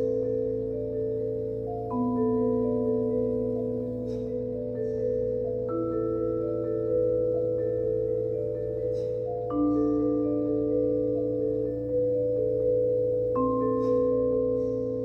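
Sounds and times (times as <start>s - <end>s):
vibraphone chords: 0.0s - 15.0s.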